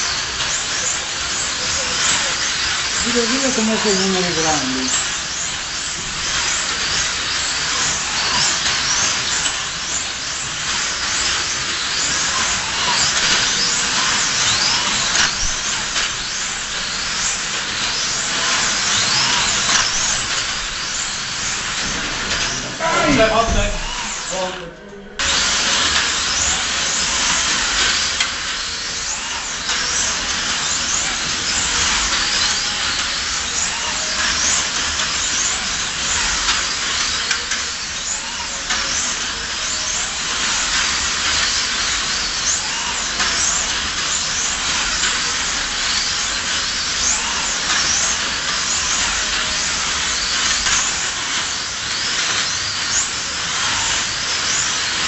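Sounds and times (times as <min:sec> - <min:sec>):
slot car motors whining: 0:00.0 - 0:55.0
steady hiss: 0:00.0 - 0:55.0.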